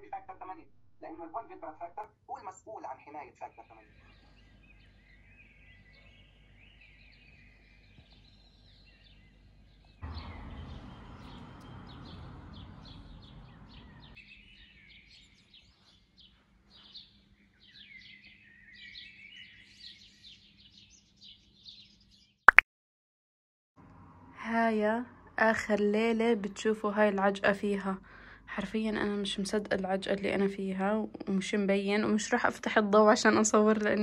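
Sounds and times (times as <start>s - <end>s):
sparrows chirping: 2.8s - 22.4s, 24.5s - 34.0s.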